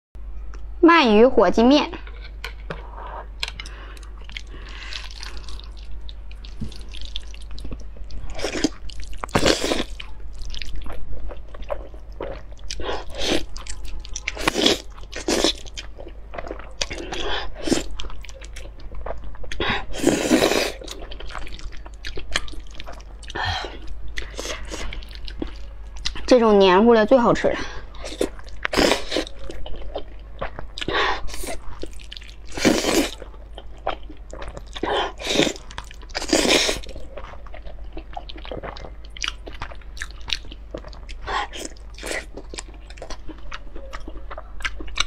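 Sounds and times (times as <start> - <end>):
wet chewing: 2.0 - 26.4, 27.5 - 45.0.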